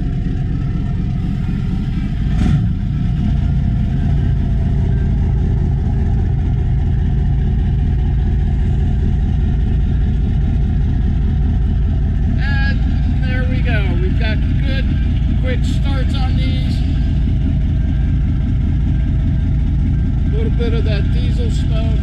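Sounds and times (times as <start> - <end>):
diesel engine starting: 0.0 - 22.0
diesel engines idling: 0.0 - 22.0.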